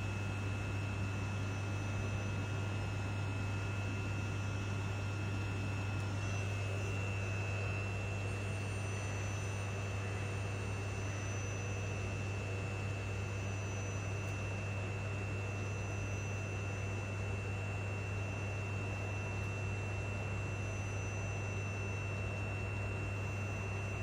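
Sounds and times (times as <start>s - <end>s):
train electrical hum and whine: 0.0s - 24.0s.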